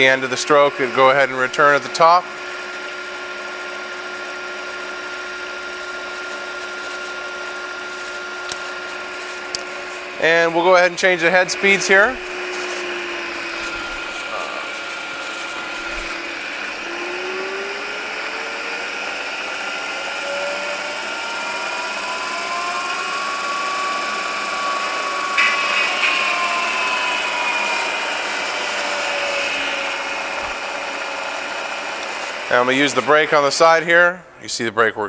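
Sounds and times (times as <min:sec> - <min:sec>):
milling machine whine: 0:00.0 - 0:34.4.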